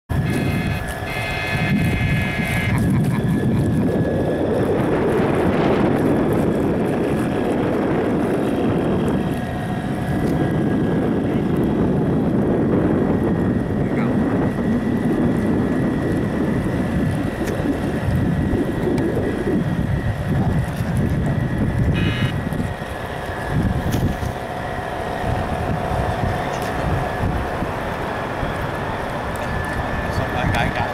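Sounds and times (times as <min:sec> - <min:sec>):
wind buffeting microphone: 0:00.1 - 0:30.9.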